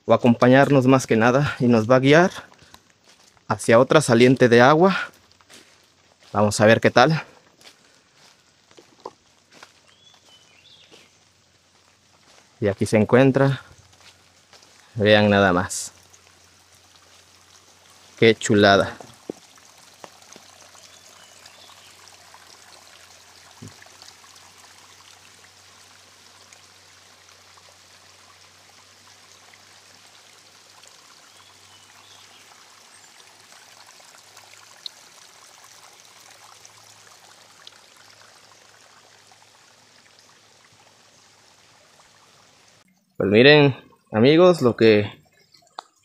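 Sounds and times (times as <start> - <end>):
water trickling over stones: 0.0 - 46.0.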